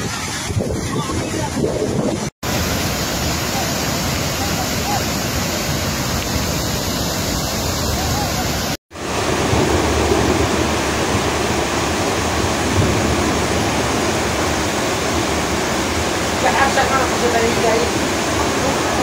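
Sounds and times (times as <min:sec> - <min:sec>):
floodwater rushing over rocks: 0:00.0 - 0:19.0
streams cascading down mountainside: 0:02.4 - 0:19.0.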